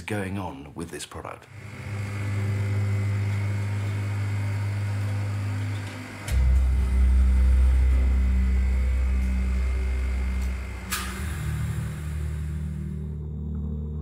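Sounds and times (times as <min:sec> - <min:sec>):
workshop machinery hum: 0:01.5 - 0:14.0.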